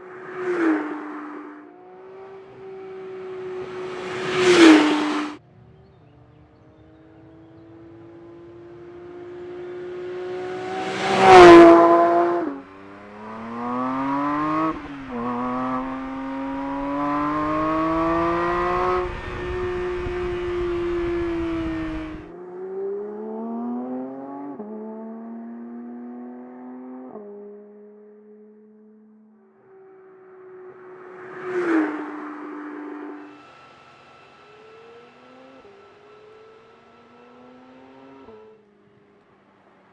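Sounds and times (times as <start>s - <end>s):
car engine accelerating: 0.0s - 28.4s, 29.9s - 39.9s.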